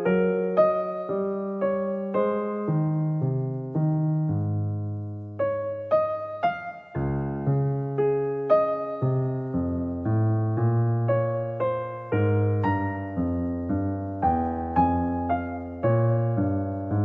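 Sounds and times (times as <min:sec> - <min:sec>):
electric piano slow melody: 0:00.0 - 0:17.0.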